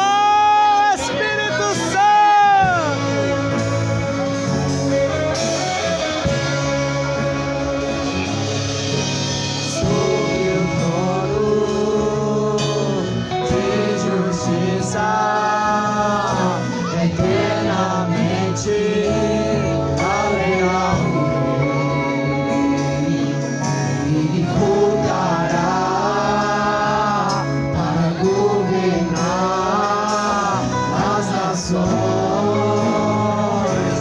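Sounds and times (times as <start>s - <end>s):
gospel choir singing: 0.0s - 34.0s
instrumental accompaniment: 0.0s - 34.0s.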